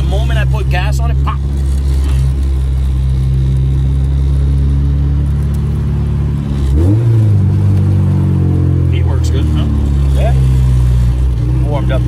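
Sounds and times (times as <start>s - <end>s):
car engine drone: 0.0s - 12.0s.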